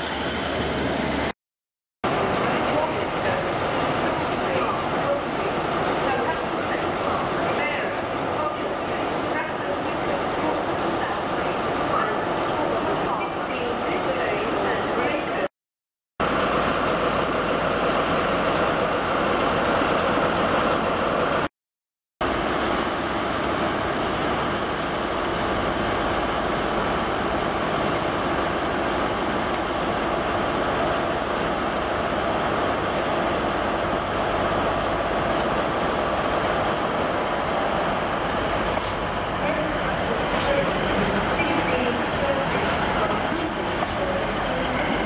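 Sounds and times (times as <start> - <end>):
diesel train rumbling past: 0.0 - 1.3, 2.0 - 15.3, 16.2 - 21.5, 22.2 - 45.0
diesel train engines idling: 2.1 - 15.4, 16.2 - 21.5, 22.2 - 45.0.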